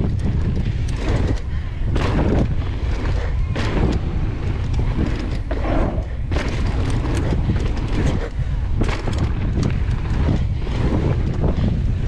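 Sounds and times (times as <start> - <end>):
bike knocks and rattles: 0.0 - 12.0
wind buffeting microphone: 0.0 - 12.0.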